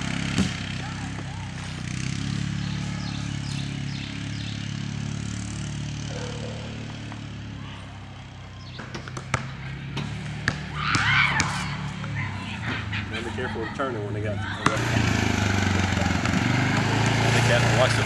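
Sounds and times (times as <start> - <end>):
distant atv engine running: 0.0 - 18.0.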